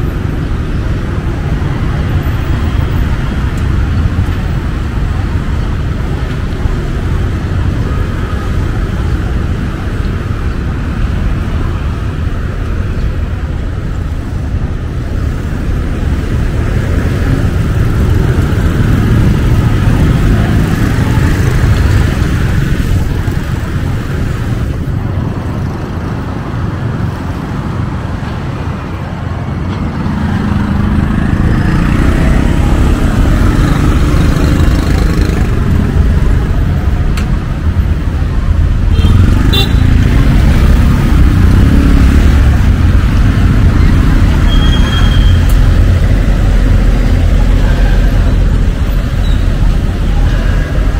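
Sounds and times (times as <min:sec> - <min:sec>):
motorbike and car engines passing: 0:00.0 - 0:50.9.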